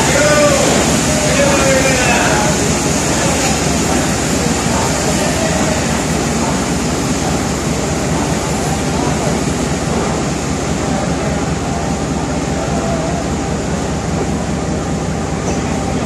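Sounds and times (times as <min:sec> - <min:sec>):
people's voices: 0:00.0 - 0:14.4
train rail noise: 0:00.0 - 0:16.0.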